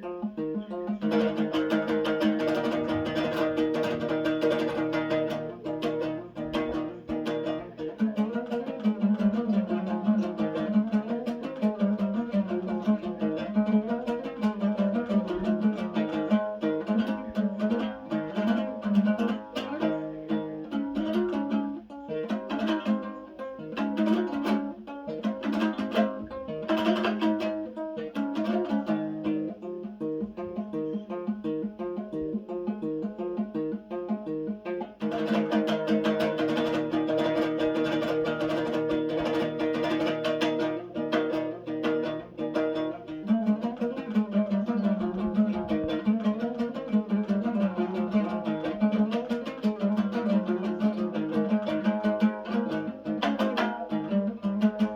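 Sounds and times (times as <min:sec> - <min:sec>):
dombra strummed plucking: 0:00.0 - 0:54.9.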